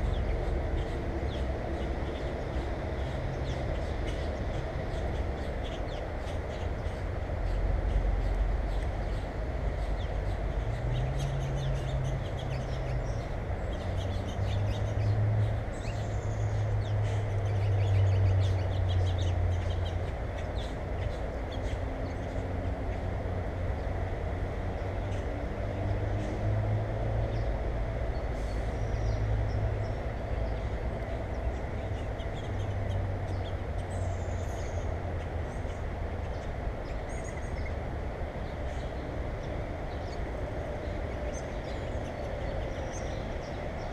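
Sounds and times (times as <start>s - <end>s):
small birds chirping: 0.0s - 24.0s, 27.2s - 43.9s.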